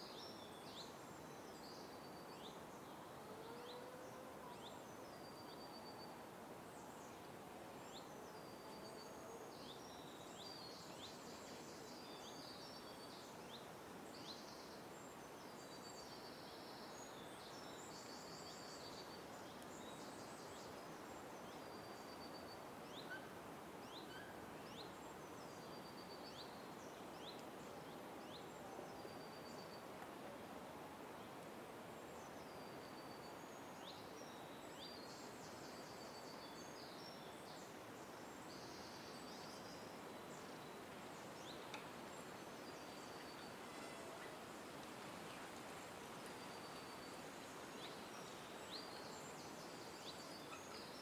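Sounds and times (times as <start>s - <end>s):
small birds chirping faintly: 0.0s - 51.0s.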